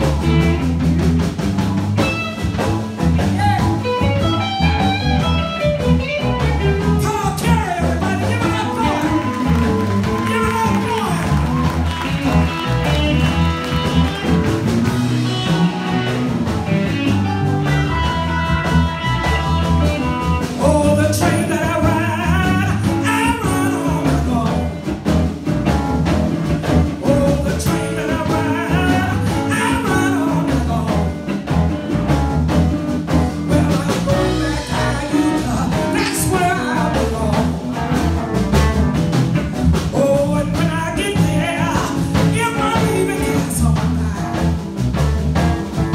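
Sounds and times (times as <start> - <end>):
live band with singer: 0.0 - 45.9.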